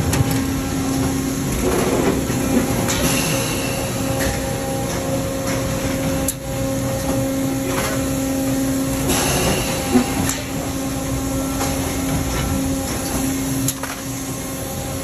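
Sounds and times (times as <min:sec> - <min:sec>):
industrial machinery drone: 0:00.0 - 0:15.0.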